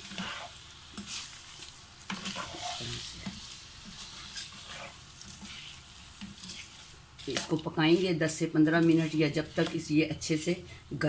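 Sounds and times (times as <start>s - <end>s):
wooden spoon scraping pan: 0.0s - 10.6s
soft sizzle from pan: 0.0s - 11.0s.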